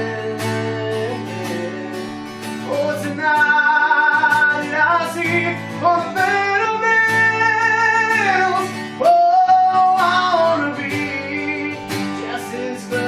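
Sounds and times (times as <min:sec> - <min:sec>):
man singing: 0:00.0 - 0:13.0
strummed acoustic guitar: 0:00.0 - 0:13.0.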